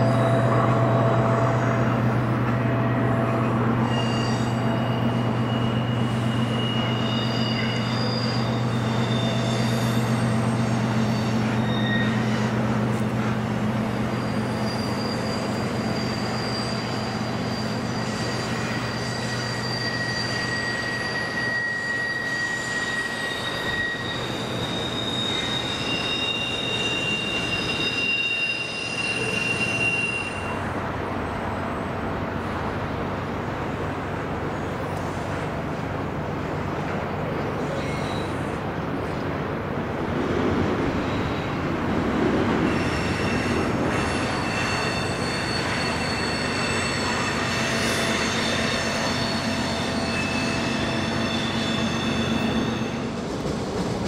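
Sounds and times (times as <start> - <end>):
train wheels squealing: 0.0 - 32.0, 36.5 - 39.2, 40.8 - 54.0
freight train rumble: 0.0 - 54.0.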